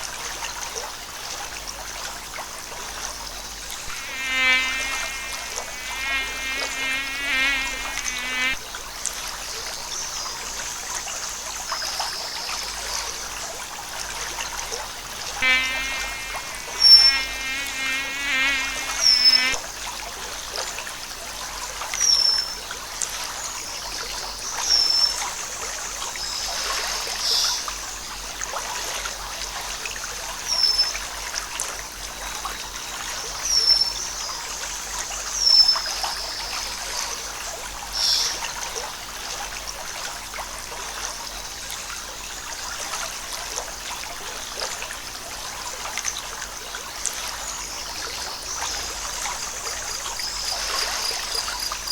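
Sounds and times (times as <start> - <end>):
stream trickling: 0.0 - 51.9.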